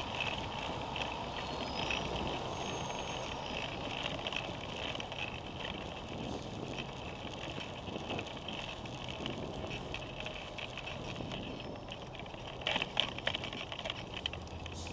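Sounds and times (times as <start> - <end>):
wind on microphone: 0.0 - 14.0
bicycle tyres on pavement: 0.0 - 14.9
street traffic: 0.0 - 14.9.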